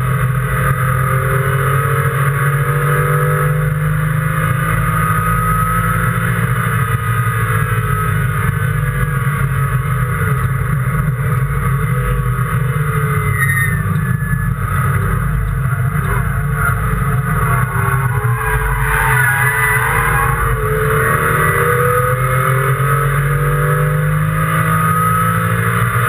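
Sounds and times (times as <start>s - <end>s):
race car engine running: 0.0s - 26.0s.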